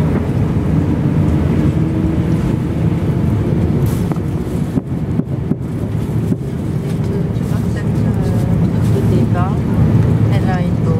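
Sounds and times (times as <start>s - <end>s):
jet engines rumbling: 0.0s - 10.9s.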